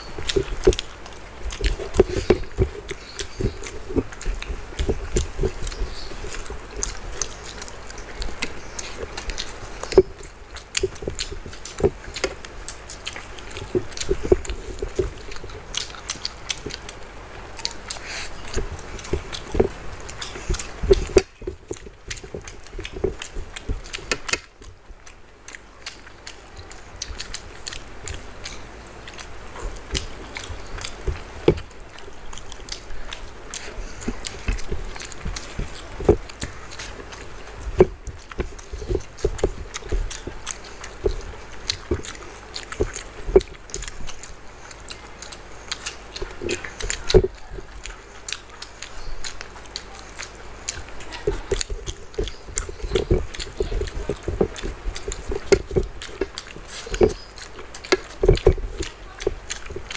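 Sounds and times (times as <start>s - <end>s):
people chewing and lip-smacking: 0.0s - 59.9s.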